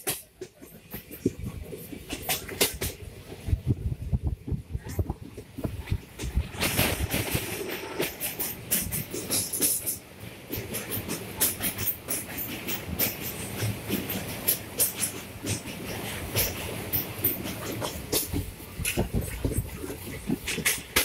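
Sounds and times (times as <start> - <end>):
train wheels clattering over rails: 0.0 - 21.0.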